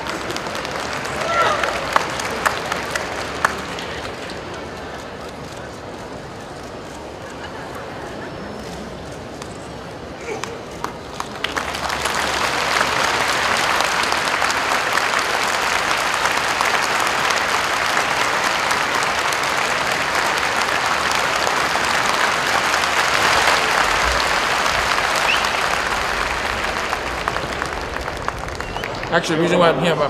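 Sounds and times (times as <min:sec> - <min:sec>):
large audience applauding: 0:00.0 - 0:05.7, 0:10.0 - 0:30.0.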